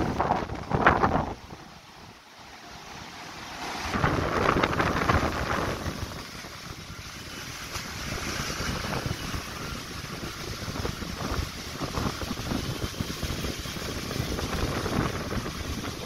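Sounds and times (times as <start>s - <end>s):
wind buffeting microphone: 0.0s - 2.2s, 3.8s - 16.0s
strong gusting wind: 0.0s - 16.0s
very heavy rain: 0.0s - 16.0s.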